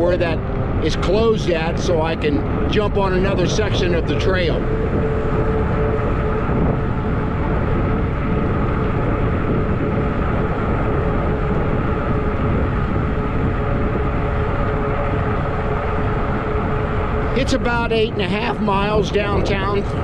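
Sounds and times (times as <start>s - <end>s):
electric drive whine: 0.0s - 20.0s
steady rolling rumble: 0.0s - 20.0s
wind rush over microphone: 0.0s - 20.0s.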